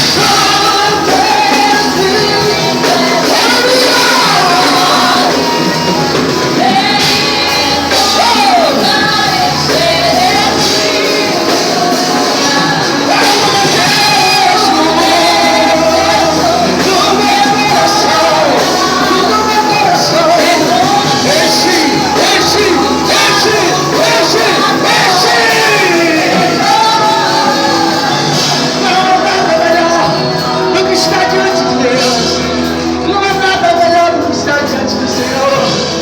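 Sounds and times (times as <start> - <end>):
worship music with singing: 0.0 - 36.0.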